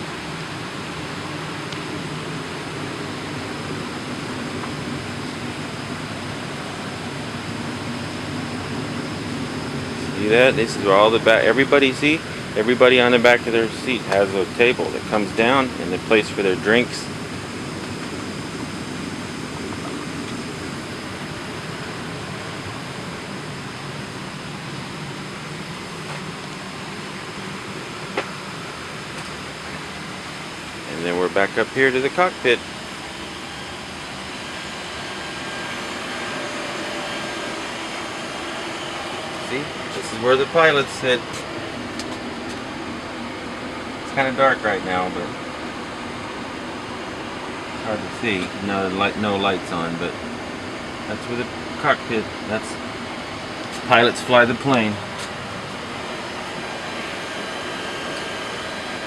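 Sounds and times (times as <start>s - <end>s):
air conditioning rushing air: 0.0s - 59.0s
low constant hum: 0.0s - 59.0s.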